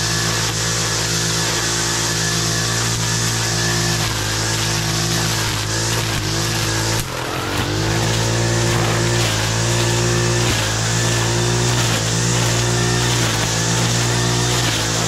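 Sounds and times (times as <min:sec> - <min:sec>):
brushcutter engine cutting undergrowth: 0:00.0 - 0:15.0.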